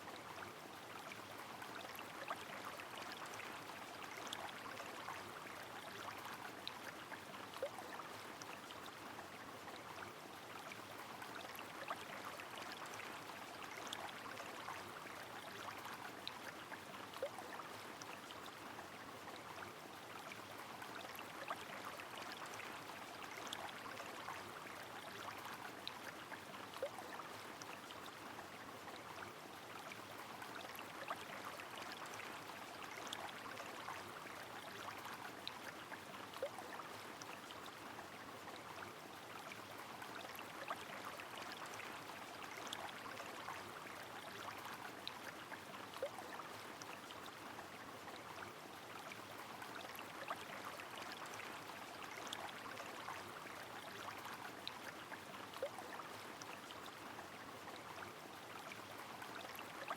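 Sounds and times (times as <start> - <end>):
flowing river: 0.0 - 59.9.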